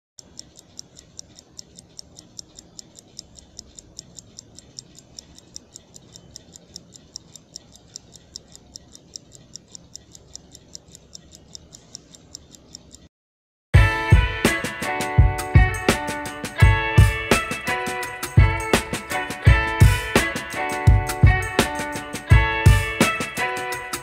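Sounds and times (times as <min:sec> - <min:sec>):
wristwatch ticking: 0:00.2 - 0:13.1, 0:14.5 - 0:24.0.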